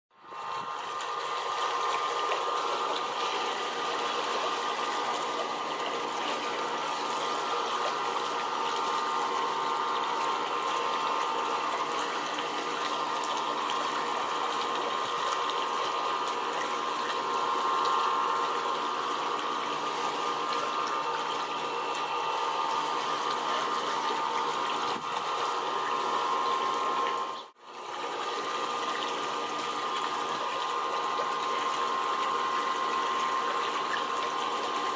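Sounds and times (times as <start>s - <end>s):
running water: 0.2s - 34.9s
steady hum: 0.2s - 34.9s.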